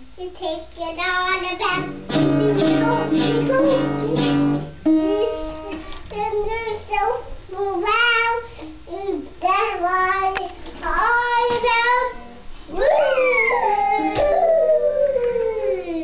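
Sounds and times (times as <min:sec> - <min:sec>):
toddler singing: 0:00.2 - 0:16.0.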